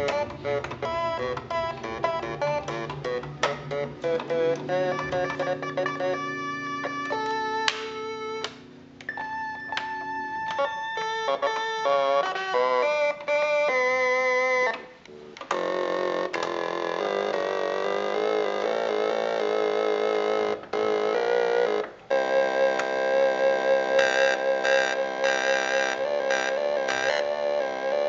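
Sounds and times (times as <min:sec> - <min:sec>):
electronic keyboard chords: 0:00.0 - 0:28.0.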